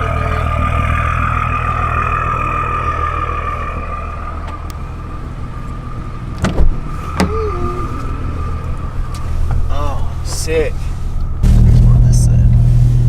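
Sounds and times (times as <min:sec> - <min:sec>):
car engine idling: 0:00.0 - 0:13.0
high-pitched whine: 0:00.0 - 0:13.0.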